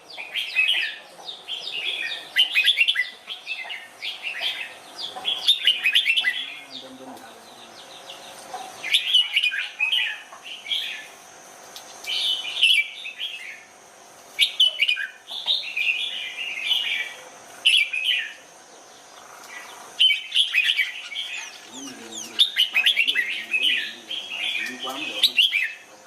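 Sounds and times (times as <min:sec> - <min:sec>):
bird singing warbled phrases: 0:00.0 - 0:11.2, 0:11.9 - 0:13.7, 0:14.4 - 0:26.0.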